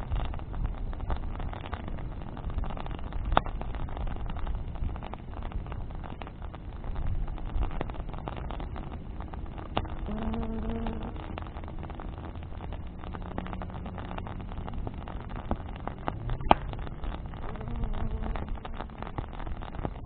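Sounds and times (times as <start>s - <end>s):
bonfire crackling and popping: 0.0s - 20.0s
steady low rumble: 0.0s - 20.0s.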